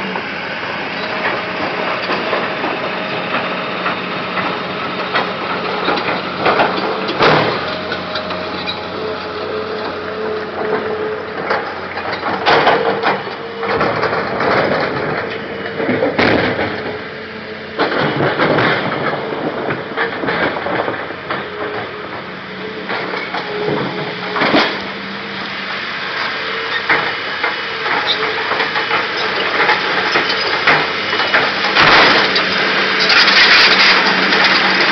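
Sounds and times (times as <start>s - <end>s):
excavator machine hum: 0.0s - 34.9s.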